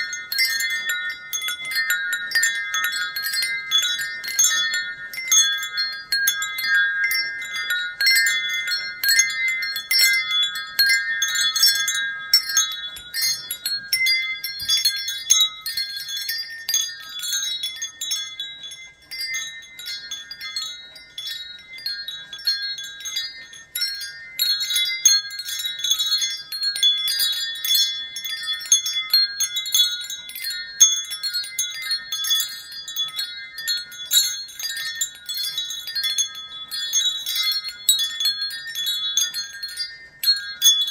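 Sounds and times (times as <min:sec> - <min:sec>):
wind chimes ringing: 0:00.0 - 0:40.9.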